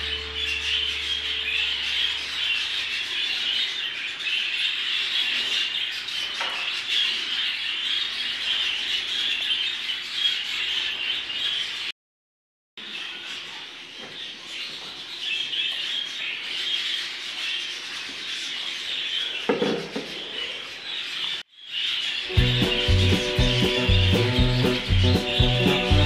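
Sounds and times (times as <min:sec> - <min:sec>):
budgerigars chattering and chirping: 0:00.0 - 0:11.9, 0:12.8 - 0:26.0.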